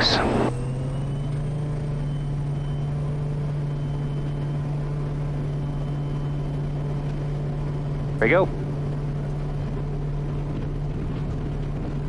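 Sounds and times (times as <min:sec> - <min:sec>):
turboprop engine drone: 0:00.0 - 0:12.0.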